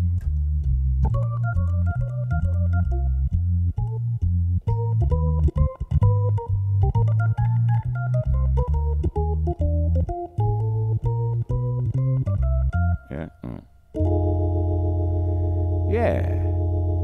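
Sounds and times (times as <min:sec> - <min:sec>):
organ chords and bass line: 0:00.0 - 0:17.0.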